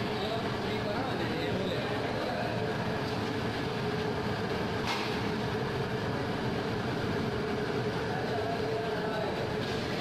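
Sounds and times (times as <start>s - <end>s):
gas burners roaring: 0.0s - 10.0s.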